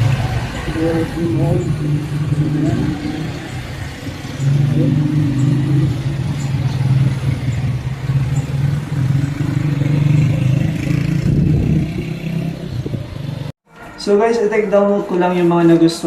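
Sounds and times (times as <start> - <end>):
vehicle engine humming: 0.0 - 13.6
street traffic: 0.0 - 16.0.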